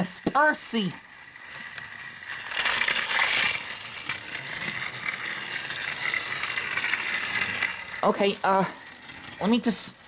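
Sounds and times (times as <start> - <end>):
toy train motor whining: 0.0 - 10.0.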